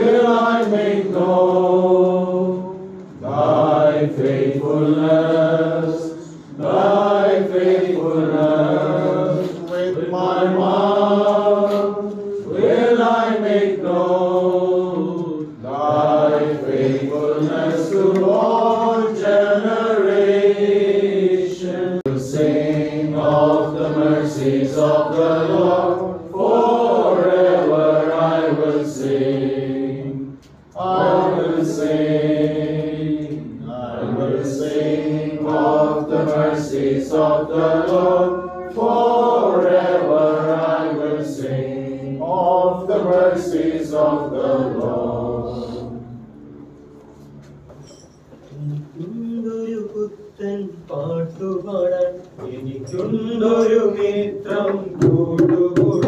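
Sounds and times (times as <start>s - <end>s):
people singing a slow hymn: 0.0s - 47.6s, 48.5s - 56.0s.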